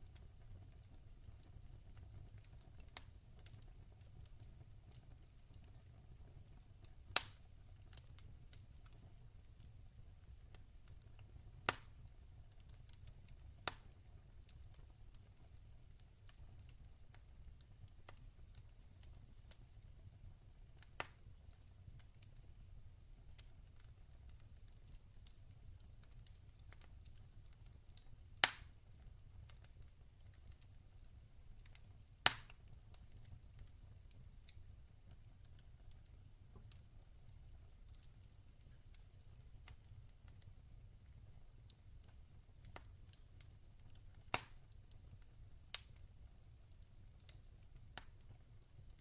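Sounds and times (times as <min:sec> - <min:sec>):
fire popping: 0:00.0 - 0:49.0
log fire crackling: 0:00.0 - 0:49.0.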